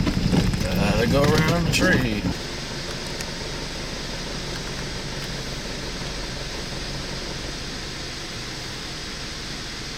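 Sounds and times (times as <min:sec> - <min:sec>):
car road and engine noise: 0:00.0 - 0:09.9.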